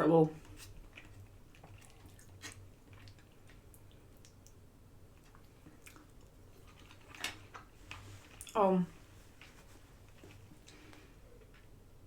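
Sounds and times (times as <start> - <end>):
quiet chewing: 0.4 - 11.7.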